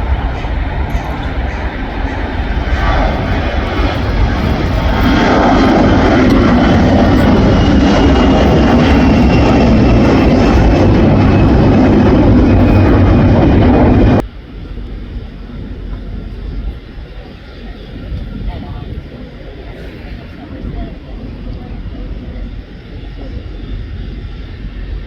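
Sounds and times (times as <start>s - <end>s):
jet airliner engine roar: 0.0s - 25.0s.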